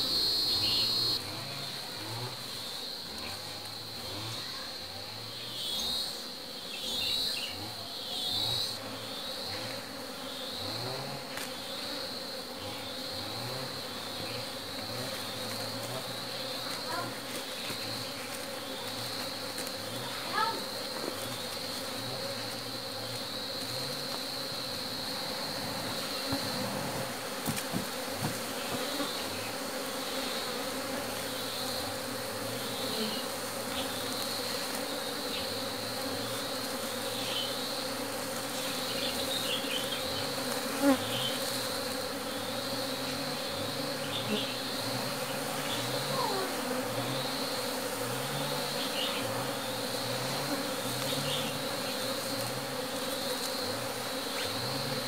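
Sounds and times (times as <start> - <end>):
single bee buzzing past: 0.0 - 55.0
swarm of bees buzzing: 0.0 - 55.0.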